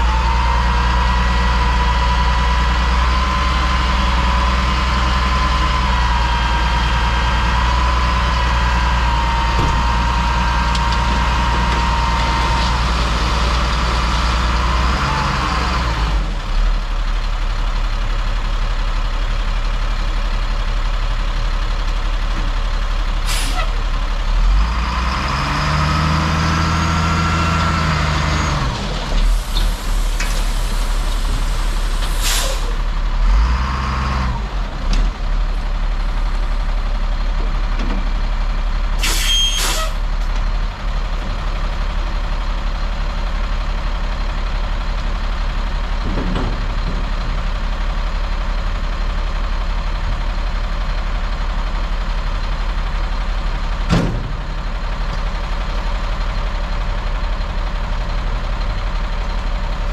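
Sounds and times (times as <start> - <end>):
truck engine running under load: 0.0 - 59.9.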